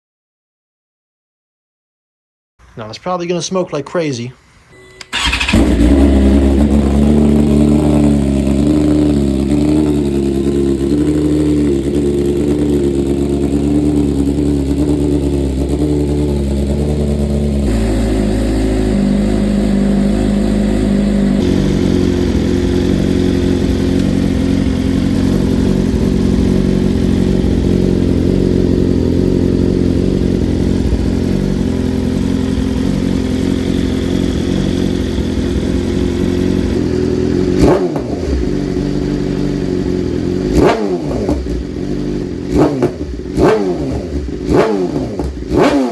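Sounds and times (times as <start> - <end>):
motorcycle engine idling: 5.1 - 45.7.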